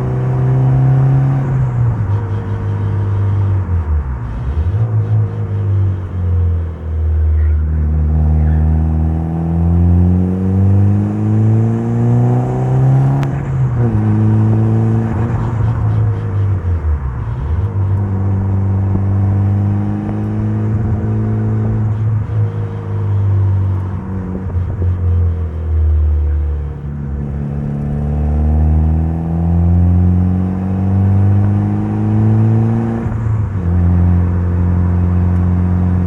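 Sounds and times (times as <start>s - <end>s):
car engine revving through gears: 0.0s - 36.0s.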